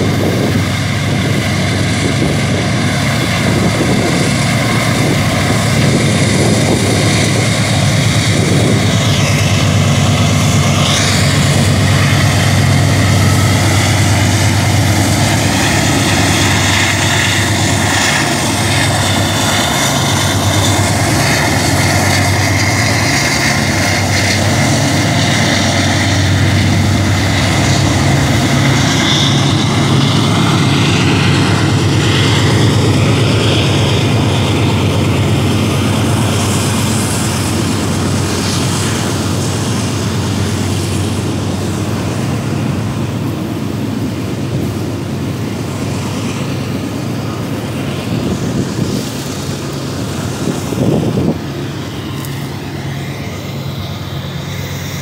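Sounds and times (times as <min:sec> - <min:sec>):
locomotive engines droning: 0:00.0 - 0:55.0.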